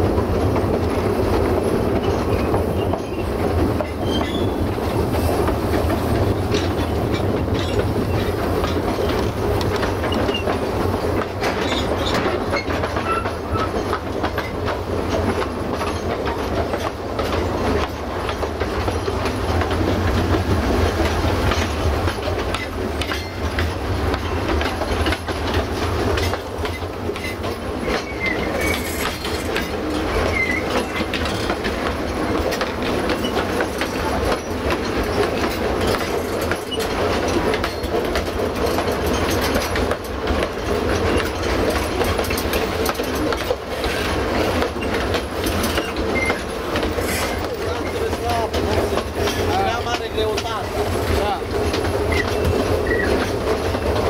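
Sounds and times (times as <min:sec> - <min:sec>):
rail clatter and clicks: 0:00.0 - 0:54.0
train wheels rumbling on rails: 0:00.0 - 0:54.0.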